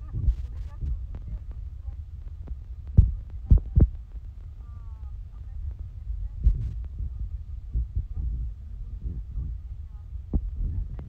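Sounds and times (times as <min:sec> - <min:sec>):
low rumbling handling noise: 0:00.0 - 0:11.0.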